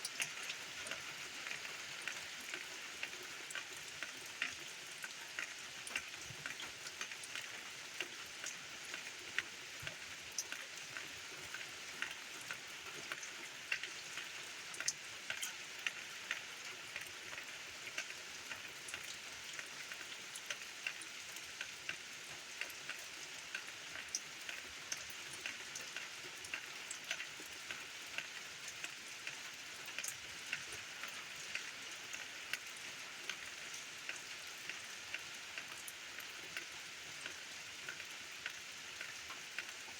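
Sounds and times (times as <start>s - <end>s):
raindrops ticking close by: 0.0s - 39.9s
steady rain hiss: 0.0s - 39.9s.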